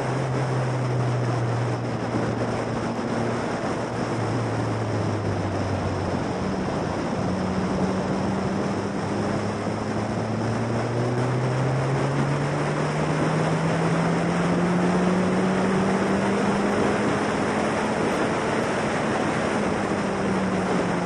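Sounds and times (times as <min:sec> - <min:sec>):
race car engine accelerating: 0:00.0 - 0:21.0
wind noise: 0:00.0 - 0:21.0.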